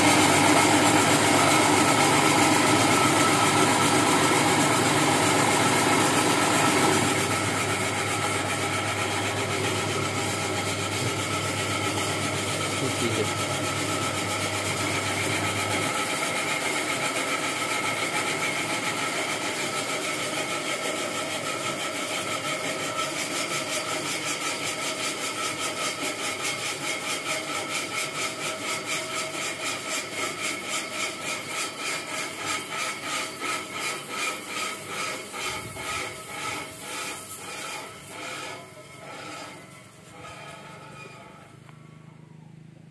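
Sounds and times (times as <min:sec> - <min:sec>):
foam-cutting machine whirring: 0:00.0 - 0:41.9.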